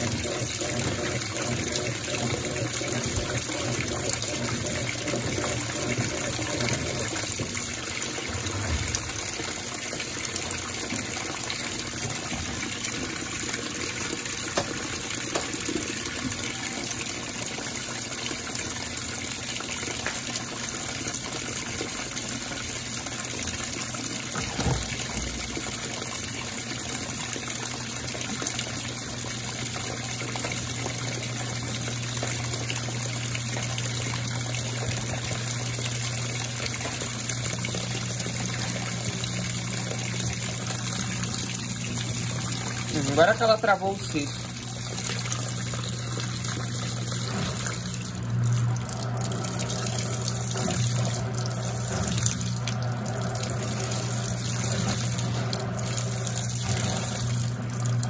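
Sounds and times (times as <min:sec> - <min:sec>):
washing machine pump hum: 0:00.0 - 0:58.0
water gushing into washing machine tub: 0:00.0 - 0:58.0.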